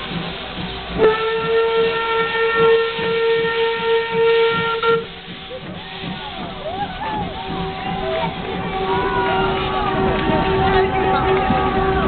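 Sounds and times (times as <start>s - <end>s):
steam locomotive whistle: 0.0s - 12.0s.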